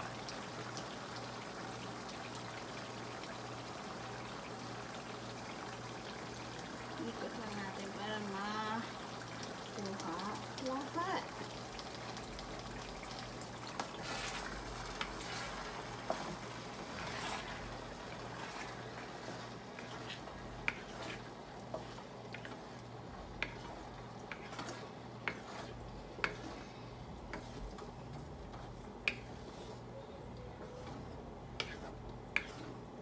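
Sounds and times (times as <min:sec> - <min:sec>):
wooden spatula stirring sauce: 0:06.0 - 0:33.0.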